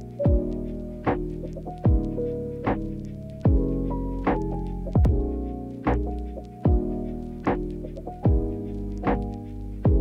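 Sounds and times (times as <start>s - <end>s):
lo-fi hip-hop music: 0.0s - 10.0s.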